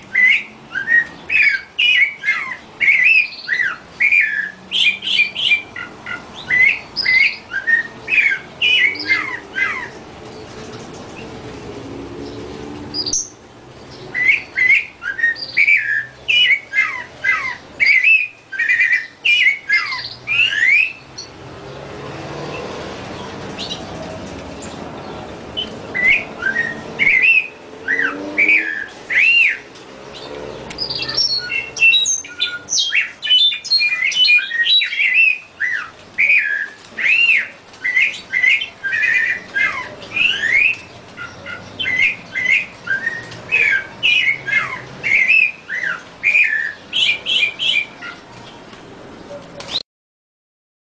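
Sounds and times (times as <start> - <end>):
birds chirping: 0.0 - 49.8.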